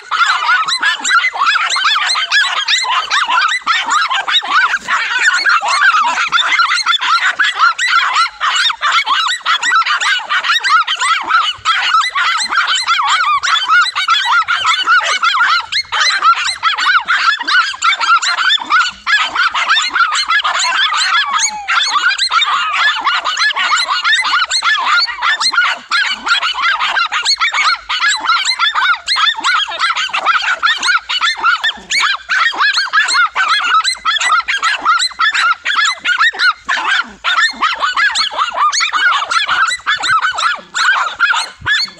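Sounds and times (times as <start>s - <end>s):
dogs barking and yapping: 0.0s - 41.9s.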